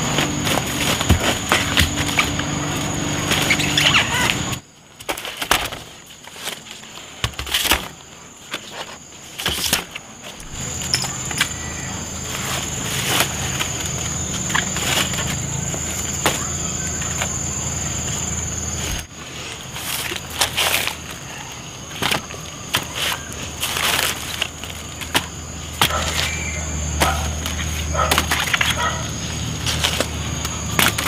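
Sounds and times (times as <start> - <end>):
knocks and rustles on leaf litter: 0.0 - 3.7, 5.0 - 17.5, 21.8 - 31.0
high insect drone: 0.0 - 4.9, 5.7 - 31.0.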